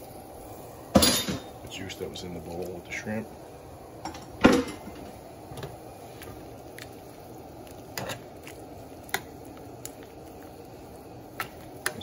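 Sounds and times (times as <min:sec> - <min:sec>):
sauce simmering in a skillet: 0:00.0 - 0:12.0.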